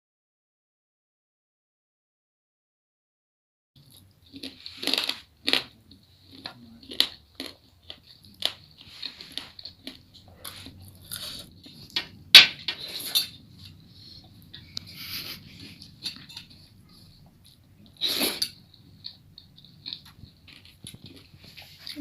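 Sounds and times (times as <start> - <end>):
person chewing and crunching food: 3.8 - 22.0.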